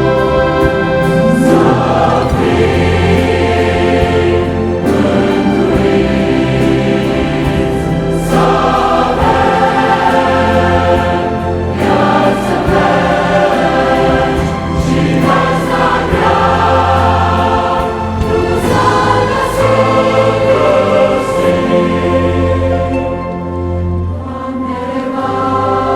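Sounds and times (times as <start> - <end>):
choir singing worship song: 0.0 - 25.9
instrumental accompaniment: 0.0 - 25.9.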